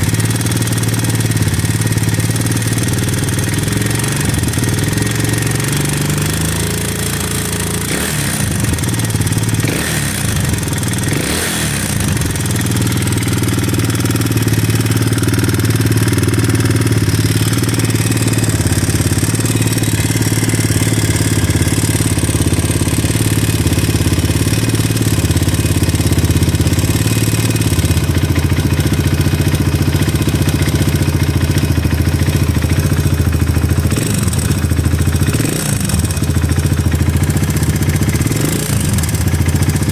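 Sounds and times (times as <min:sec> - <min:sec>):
motorcycle engine knocking: 0:00.0 - 0:39.9.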